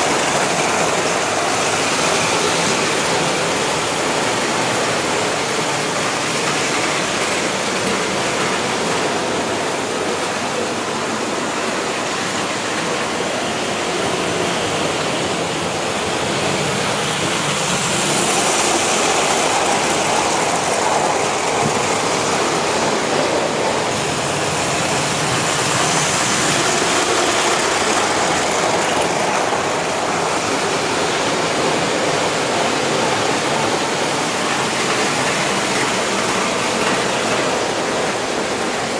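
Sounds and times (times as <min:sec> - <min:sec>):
model trains rumbling on track: 0:00.0 - 0:38.9.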